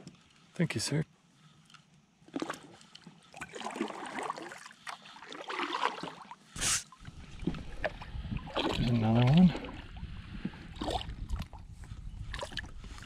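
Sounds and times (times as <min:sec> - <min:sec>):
water sloshing off kayak paddle: 0:02.2 - 0:13.0.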